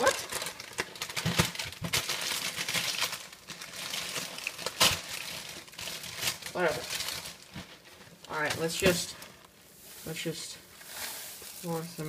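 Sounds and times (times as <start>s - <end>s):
cereal box and bag crinkling: 0.0s - 12.0s.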